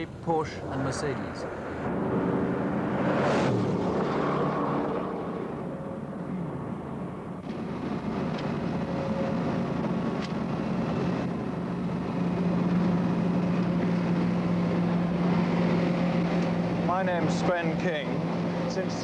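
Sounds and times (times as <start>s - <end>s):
car engine drone: 0.0s - 19.0s
wind and road noise: 0.0s - 19.0s.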